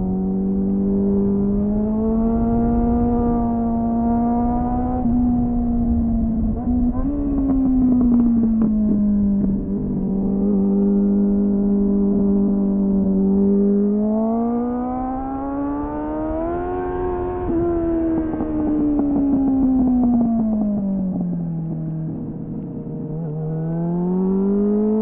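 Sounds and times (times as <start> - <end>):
motorcycle engine revving: 0.0 - 25.0
wind rumbling on microphone: 0.0 - 25.0.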